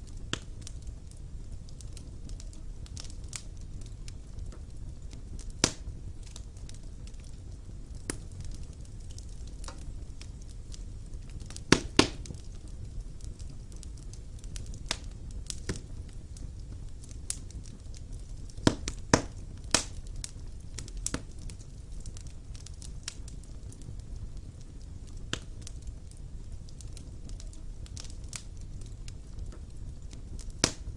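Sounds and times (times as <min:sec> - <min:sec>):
fire crackling in a fireplace: 0:00.0 - 0:30.9.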